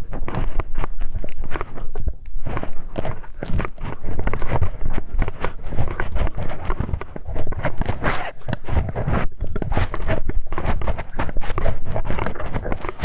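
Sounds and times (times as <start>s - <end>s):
tool scraping in ear: 0.0s - 13.0s.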